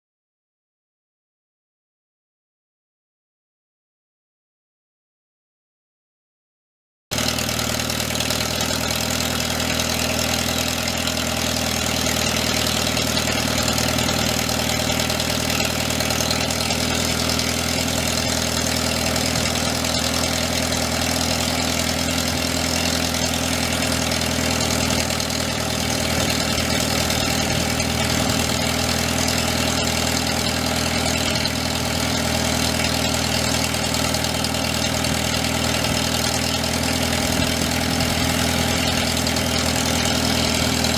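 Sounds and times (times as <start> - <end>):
tractor engine idling: 7.1 - 40.9.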